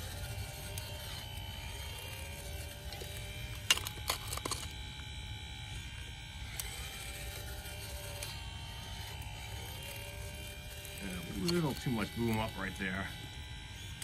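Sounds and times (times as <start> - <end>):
hydraulic pump whining: 0.0 - 13.1.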